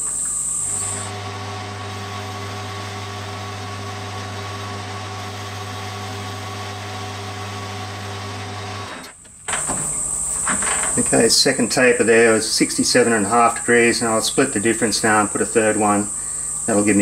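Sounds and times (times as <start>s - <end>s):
metal lathe humming: 0.0s - 16.8s.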